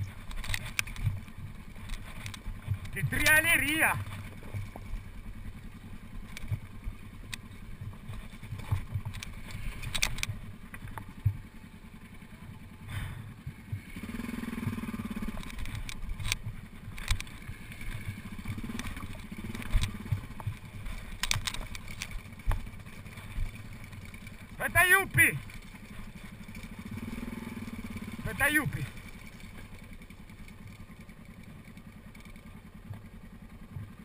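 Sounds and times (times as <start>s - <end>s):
knocks and clatter over rocks: 0.0s - 11.7s, 13.4s - 34.0s
motorcycle engine running: 0.0s - 34.0s.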